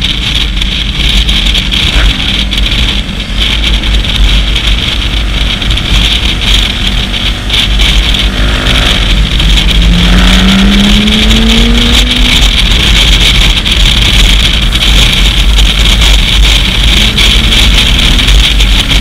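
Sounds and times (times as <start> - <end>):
motorcycle engine accelerating: 0.0 - 19.0
wind buffeting microphone: 0.0 - 19.0.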